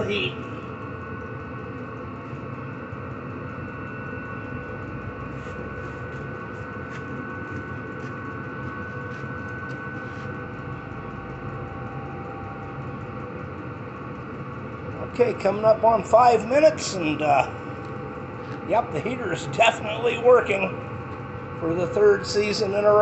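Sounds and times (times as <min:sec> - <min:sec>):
blower motor whine: 0:00.0 - 0:23.0
combustion hum: 0:00.0 - 0:23.0.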